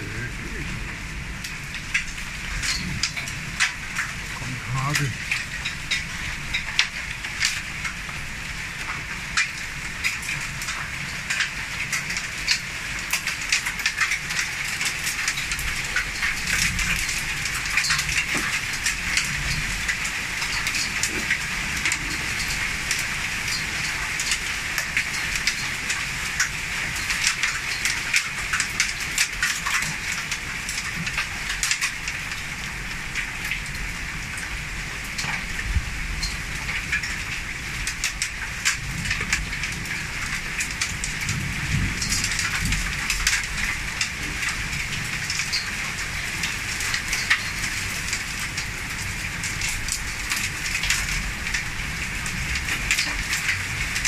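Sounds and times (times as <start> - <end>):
heavy rain hissing: 0.0 - 54.0
raindrops ticking on surfaces: 0.0 - 54.0.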